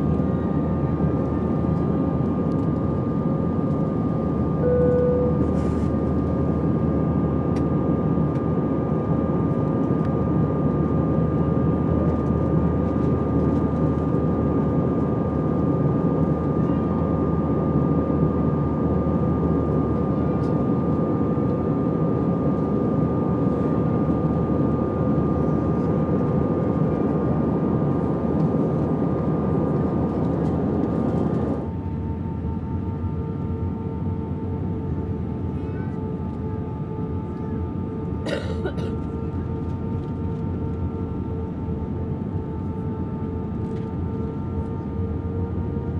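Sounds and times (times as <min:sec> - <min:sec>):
constant engine whine: 0:00.0 - 0:45.9
jet cabin roar: 0:00.0 - 0:45.9.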